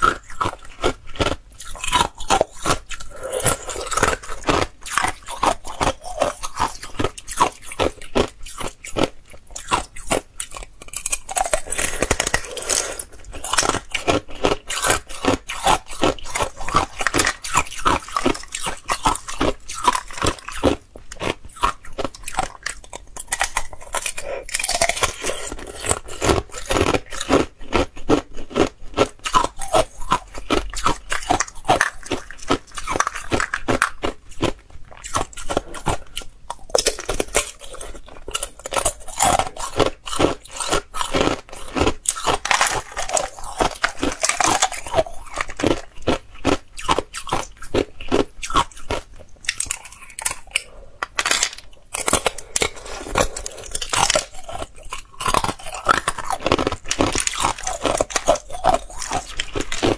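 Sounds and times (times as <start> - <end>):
ice crunching being chewed: 0.0 - 59.9.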